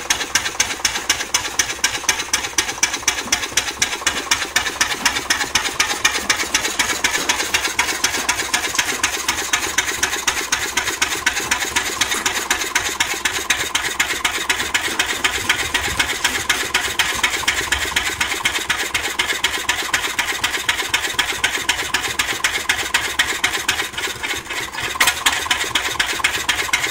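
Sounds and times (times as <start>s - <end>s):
diesel engine clattering: 0.0s - 26.9s.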